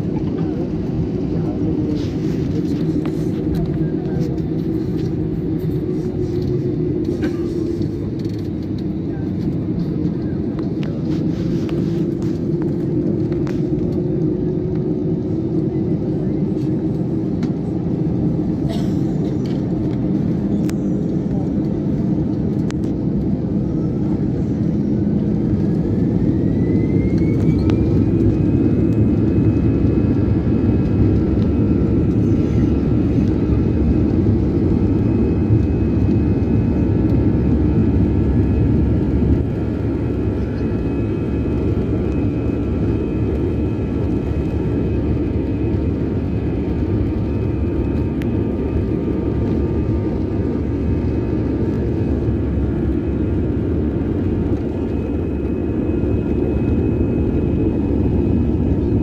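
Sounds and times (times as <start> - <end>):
jet engines rumbling with whine: 0.0 - 59.0.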